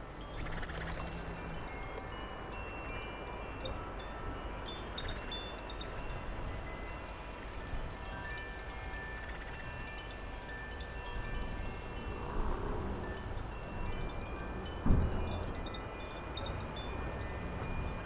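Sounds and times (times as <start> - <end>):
wind chimes ringing: 0.0 - 18.0
wind rumble on microphone: 0.0 - 18.0.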